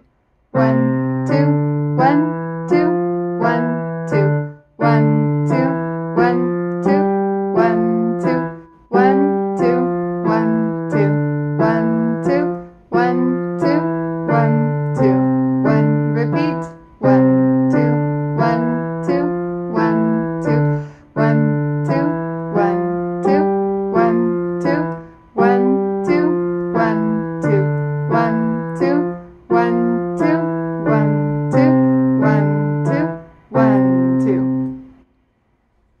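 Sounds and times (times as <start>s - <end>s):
digital piano exercise phrase: 0.0s - 35.3s.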